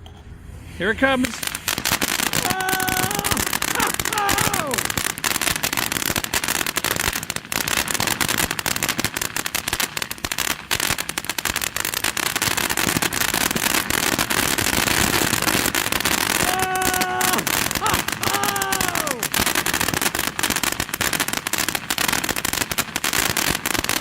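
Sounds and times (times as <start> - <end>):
firework fountain crackling: 0.8 - 24.0.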